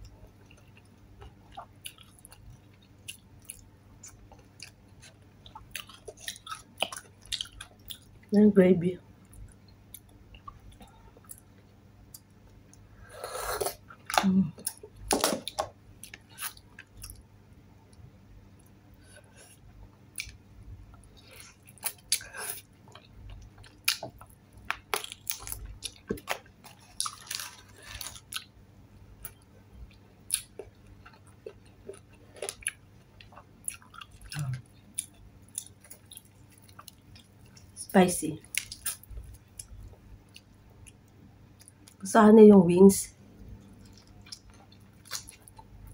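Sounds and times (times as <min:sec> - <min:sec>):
person chewing: 0:00.4 - 0:08.1, 0:09.3 - 0:17.2, 0:18.6 - 0:28.5, 0:29.2 - 0:37.7, 0:38.5 - 0:41.0, 0:43.6 - 0:45.9.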